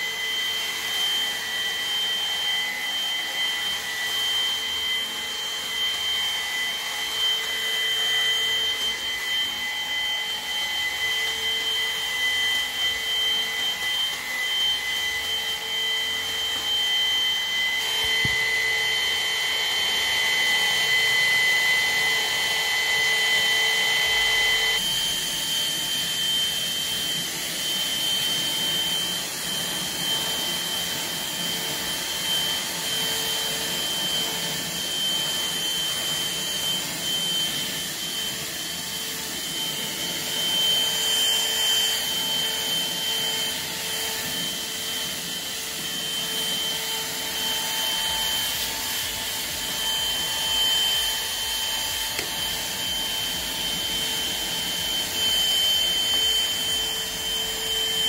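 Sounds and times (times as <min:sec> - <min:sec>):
stick vacuum cleaner whine: 0:00.0 - 0:58.0.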